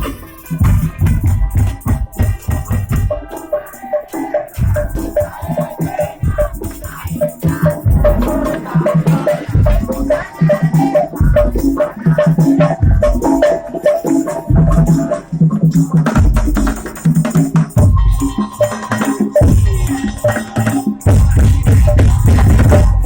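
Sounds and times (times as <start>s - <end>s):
percussion band music: 0.0s - 23.0s.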